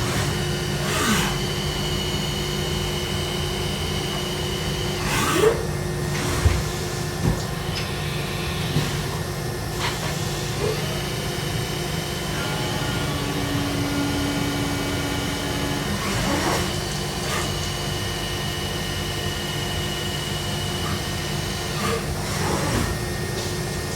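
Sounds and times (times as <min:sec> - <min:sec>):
machine mechanical hum: 0:00.0 - 0:23.9
machine whining tones: 0:00.0 - 0:23.9.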